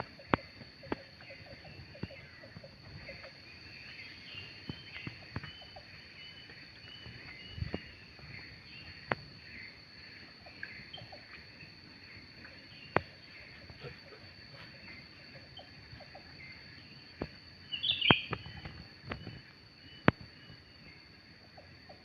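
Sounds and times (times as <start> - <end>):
high insect drone: 0.0 - 22.0
birds chattering: 0.2 - 20.7.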